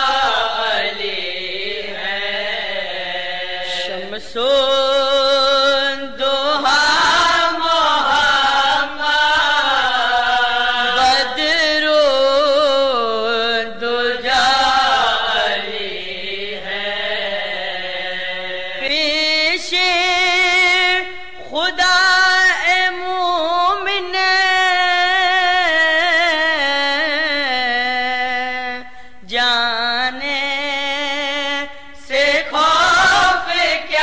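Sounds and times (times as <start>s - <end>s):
person chanting melismatically: 0.0s - 34.0s.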